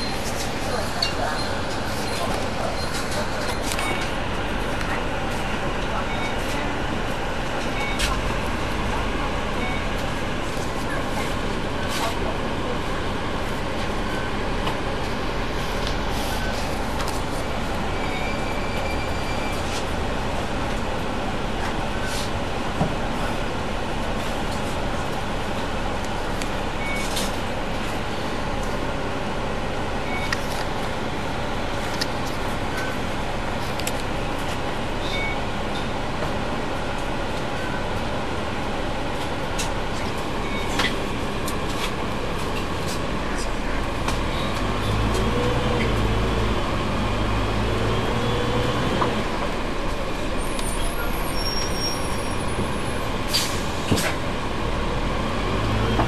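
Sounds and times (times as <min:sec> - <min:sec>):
bus engine droning: 0:00.0 - 0:56.0.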